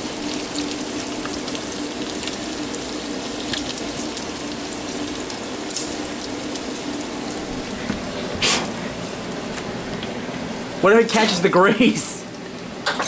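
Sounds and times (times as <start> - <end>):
deep-frying sizzle with pops: 0.0 - 10.2, 12.3 - 13.0.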